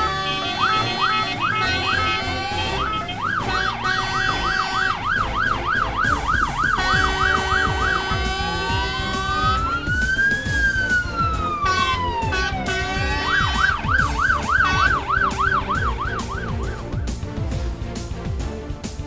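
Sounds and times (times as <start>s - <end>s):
siren wail: 0.0s - 16.8s
siren yelp: 0.0s - 16.8s
steady siren tones: 0.0s - 16.8s.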